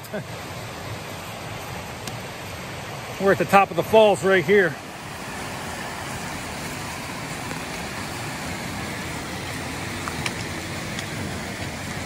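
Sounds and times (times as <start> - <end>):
waterfall roaring over rocks: 0.0 - 12.0.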